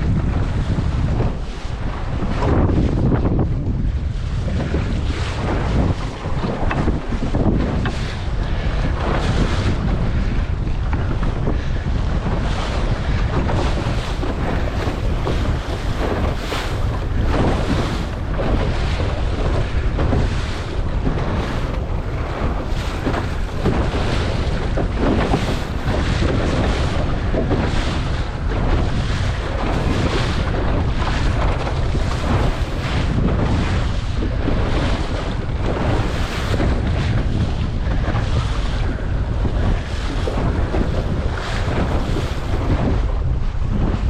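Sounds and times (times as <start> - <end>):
water splashing against boat hull: 0.0 - 44.0
wind buffeting microphone: 0.0 - 44.0.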